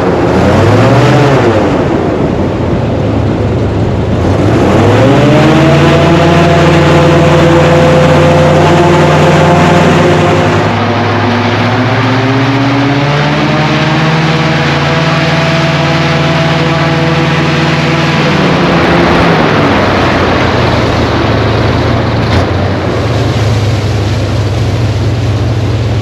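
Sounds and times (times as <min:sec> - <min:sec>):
airboat engine and propeller: 0:00.0 - 0:26.0.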